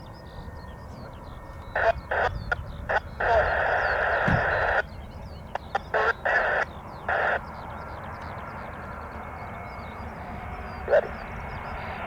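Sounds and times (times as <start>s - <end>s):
low outdoor rumble: 0.0s - 12.0s
small birds twittering: 0.0s - 12.0s.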